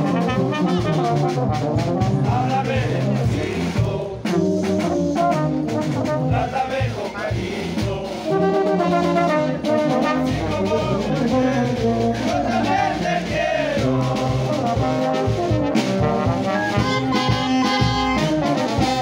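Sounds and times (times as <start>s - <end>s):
bass drum beat: 0.0s - 19.0s
brass band playing: 0.0s - 19.0s.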